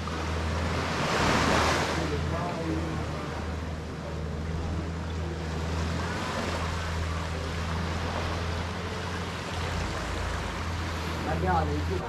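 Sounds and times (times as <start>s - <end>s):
boat engine droning: 0.0s - 12.0s
rushing water: 0.0s - 12.0s
wind: 0.0s - 12.0s.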